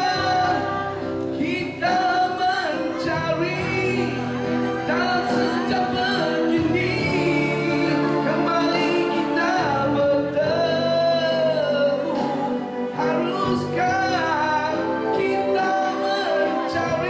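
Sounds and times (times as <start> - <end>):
amplified keyboard music: 0.0 - 17.0
man singing into a microphone: 0.0 - 17.0.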